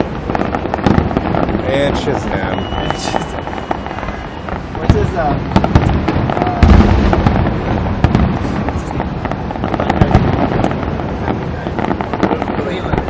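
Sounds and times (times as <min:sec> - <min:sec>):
fireworks booms and crackling bursts: 0:00.0 - 0:13.0.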